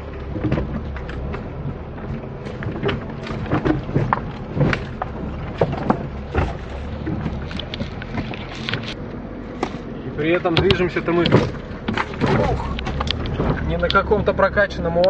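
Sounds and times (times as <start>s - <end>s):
wheels knocking over debris: 0.0s - 9.0s, 9.6s - 14.6s
car engine rumble: 0.0s - 15.0s.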